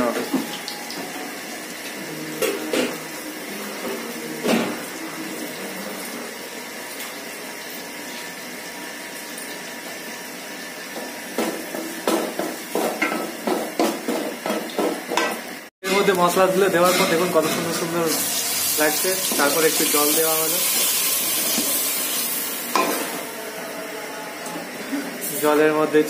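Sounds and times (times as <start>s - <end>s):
food frying in oil: 0.0s - 23.3s.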